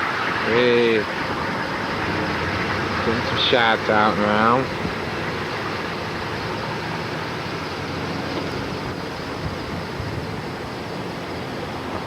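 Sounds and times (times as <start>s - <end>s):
cars on the road: 0.0s - 12.0s.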